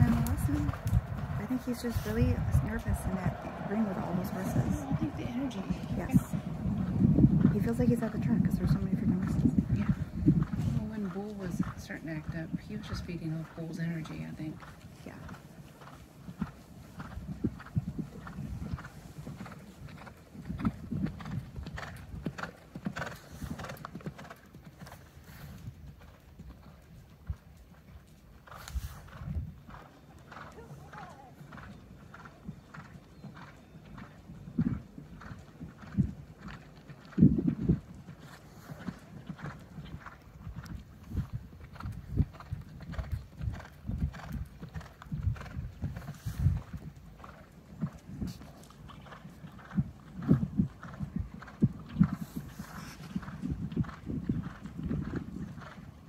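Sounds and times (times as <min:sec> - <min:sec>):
horse hooves cantering on sand: 0:00.0 - 0:56.0.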